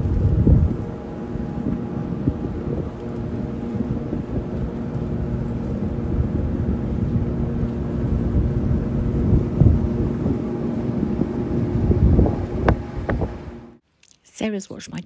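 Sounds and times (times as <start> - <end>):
boat engine running: 0.0 - 13.8
wind rumbling on microphone: 0.0 - 13.8.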